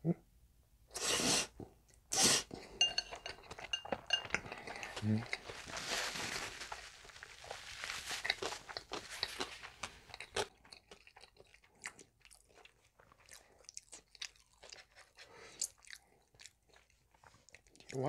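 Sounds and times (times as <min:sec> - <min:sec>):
chewing and crunching food: 0:01.9 - 0:18.0.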